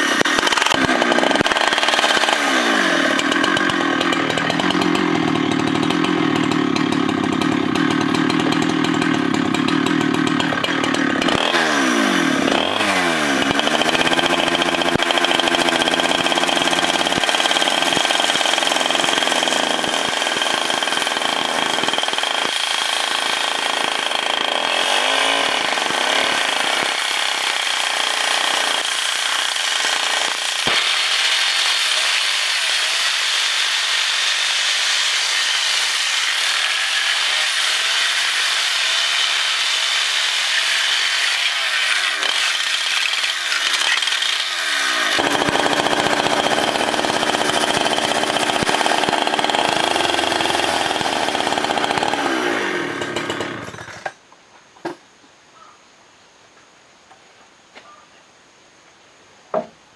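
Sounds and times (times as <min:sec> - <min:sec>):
chainsaw cutting wood: 0:00.0 - 0:54.2.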